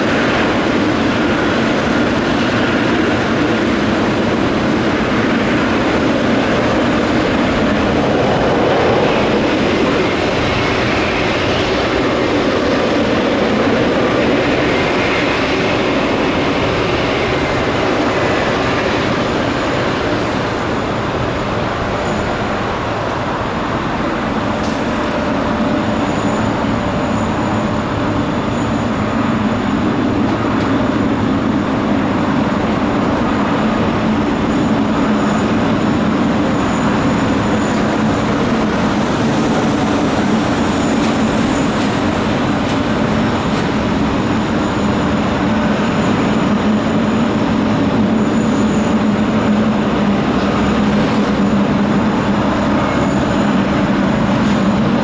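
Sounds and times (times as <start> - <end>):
people-mover train running: 0.0 - 55.0.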